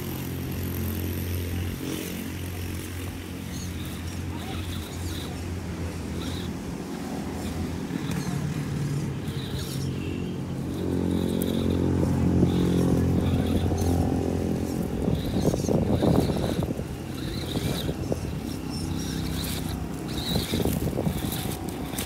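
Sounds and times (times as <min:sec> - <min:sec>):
electric motor hum: 0:00.0 - 0:22.0
short high motor whines: 0:00.0 - 0:22.0.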